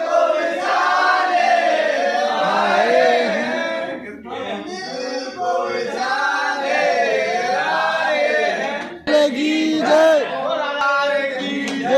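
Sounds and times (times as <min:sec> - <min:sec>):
choir chanting: 0:00.0 - 0:10.2, 0:11.3 - 0:11.9.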